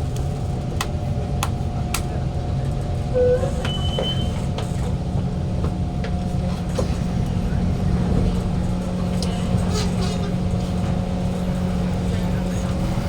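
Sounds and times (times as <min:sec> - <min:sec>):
low hum inside a metro car: 0:00.0 - 0:13.0.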